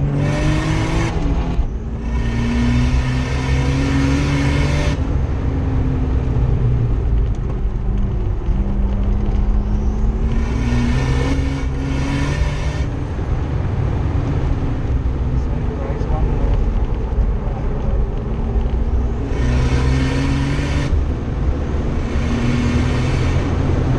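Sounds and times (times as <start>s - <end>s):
car engine accelerating: 0.0s - 23.9s.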